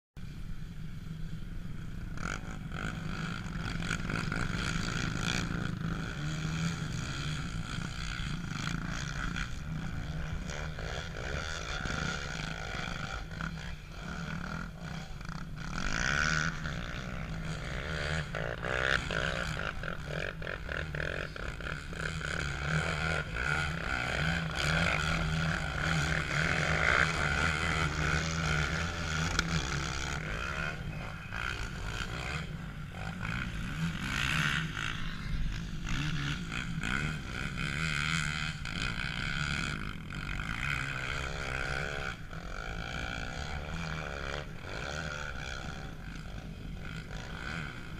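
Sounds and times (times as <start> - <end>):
atv engines revving: 0.2 - 47.9
steady low hum: 0.2 - 47.9.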